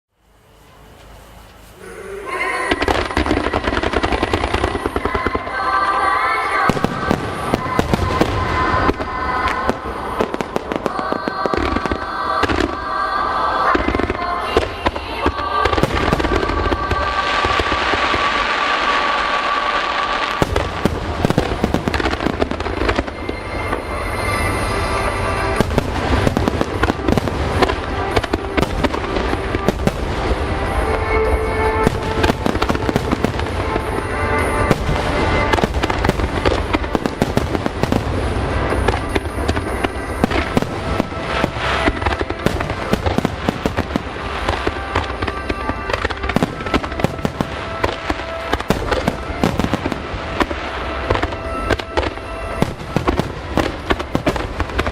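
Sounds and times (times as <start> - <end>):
fireworks bursting and crackling: 0.2 - 54.9
music playing: 0.3 - 54.9.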